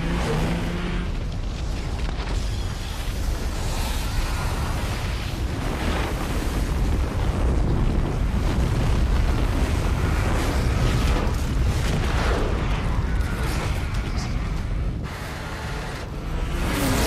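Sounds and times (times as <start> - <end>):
avalanche rumble: 0.0 - 17.0.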